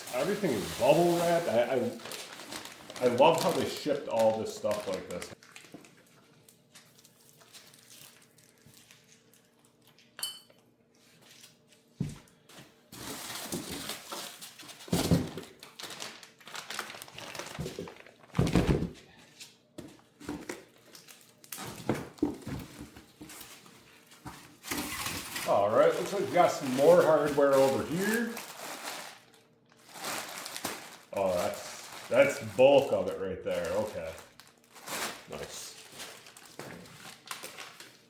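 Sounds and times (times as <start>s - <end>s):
bubble wrap crinkling: 0.0s - 9.8s, 12.9s - 18.7s, 20.4s - 38.0s.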